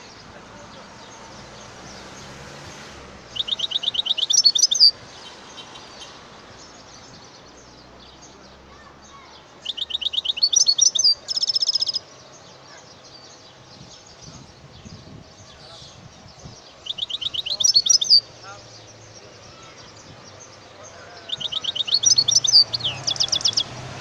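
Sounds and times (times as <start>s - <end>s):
goldfinch singing: 3.2s - 24.0s.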